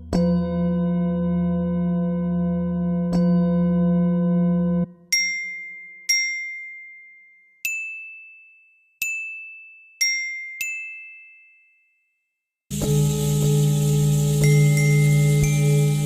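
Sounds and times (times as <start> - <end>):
bell-like struck notes: 0.0 - 16.0.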